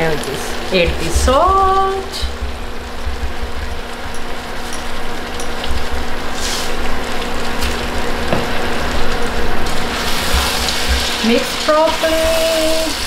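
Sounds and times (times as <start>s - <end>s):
food frying sizzle: 0.0s - 13.0s
low hum: 0.2s - 11.3s.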